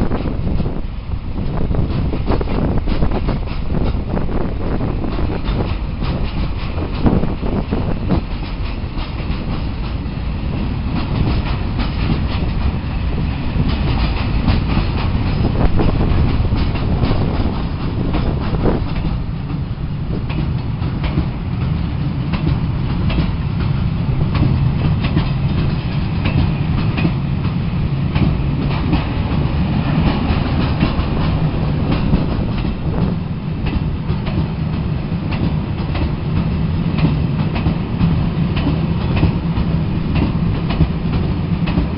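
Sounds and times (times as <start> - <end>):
train rumbling: 0.0 - 41.9
wheels clacking over rail joints: 0.0 - 41.9.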